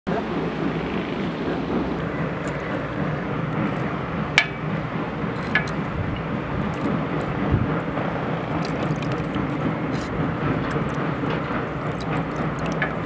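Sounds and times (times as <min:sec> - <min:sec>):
low outdoor rumble: 0:00.1 - 0:13.0.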